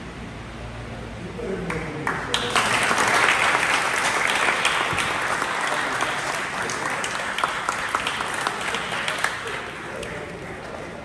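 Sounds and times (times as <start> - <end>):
crowd applauding: 1.5 - 11.0.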